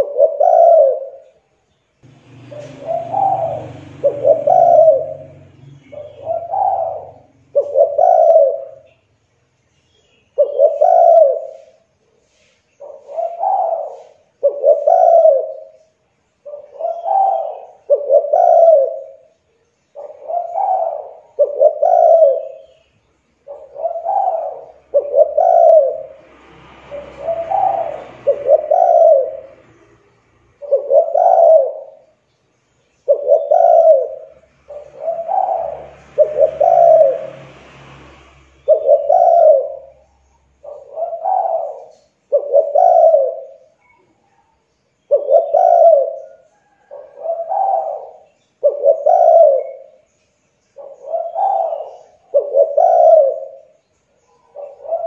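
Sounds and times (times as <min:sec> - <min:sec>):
dove cooing: 0:00.0 - 0:01.4, 0:02.0 - 0:09.0, 0:10.3 - 0:32.2, 0:33.0 - 0:37.6, 0:38.6 - 0:50.1, 0:50.7 - 0:55.0.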